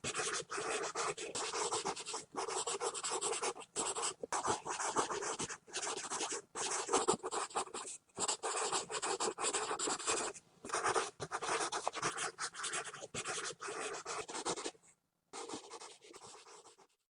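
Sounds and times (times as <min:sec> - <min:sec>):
pencil scribbling on paper: 0:00.0 - 0:17.0.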